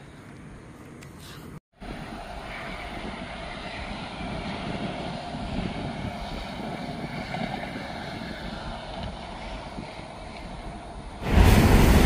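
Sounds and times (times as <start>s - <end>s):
highway traffic rumble: 0.0s - 12.0s
wind buffeting microphone: 1.8s - 12.0s.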